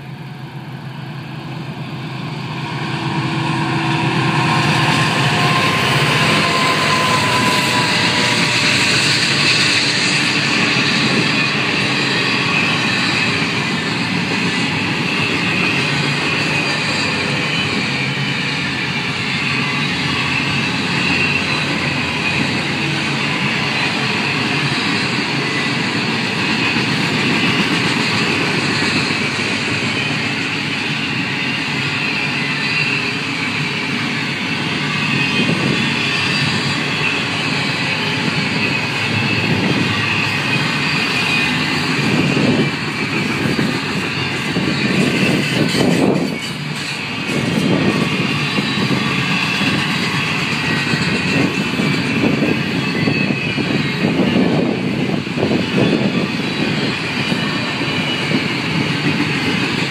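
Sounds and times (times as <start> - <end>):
steel train wheels on rail: 0.0 - 59.9.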